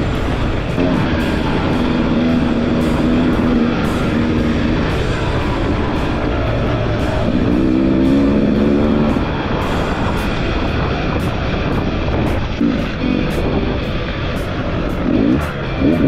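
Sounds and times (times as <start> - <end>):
distorted electric guitar: 0.0 - 16.0
drum beat: 0.0 - 16.0.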